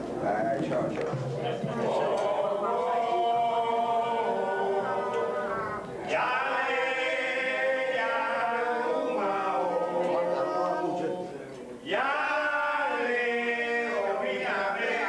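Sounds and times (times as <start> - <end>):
chorus singing a chant: 1.0 - 15.0.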